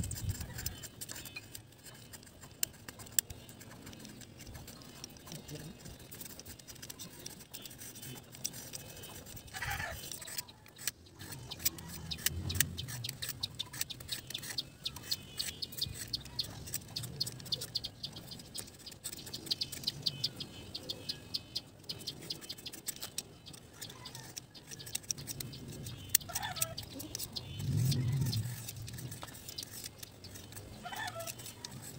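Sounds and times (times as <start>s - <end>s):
knife scraping bamboo: 0.0s - 21.2s, 21.8s - 31.9s.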